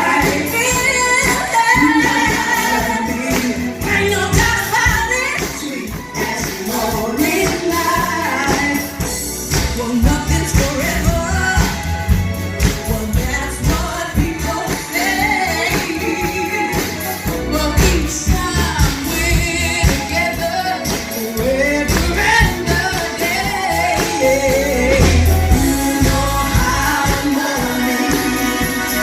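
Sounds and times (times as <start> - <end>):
bass: 0.0 - 29.0
people singing: 0.0 - 29.0
drum beat: 0.2 - 29.0.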